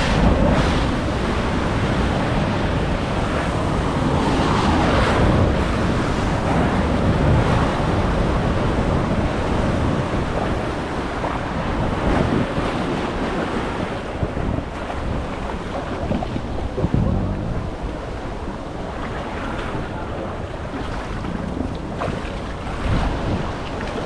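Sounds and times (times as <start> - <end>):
water rushing and splashing: 0.0 - 24.0
wind buffeting microphone: 0.0 - 24.0.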